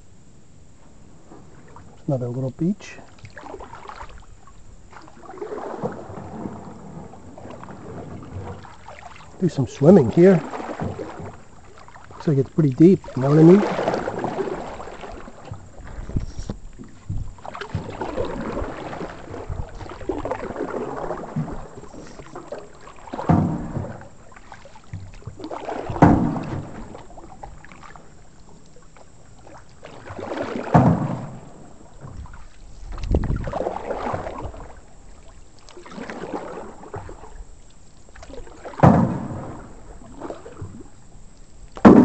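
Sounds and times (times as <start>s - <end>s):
paddles swishing through water: 0.7s - 42.0s.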